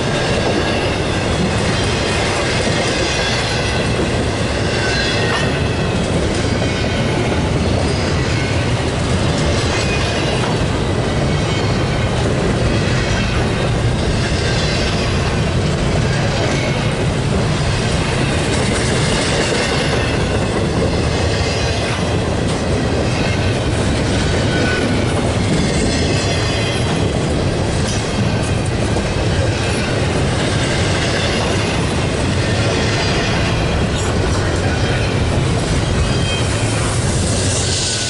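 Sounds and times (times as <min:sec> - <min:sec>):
train wheels on rails: 0:00.0 - 0:38.0.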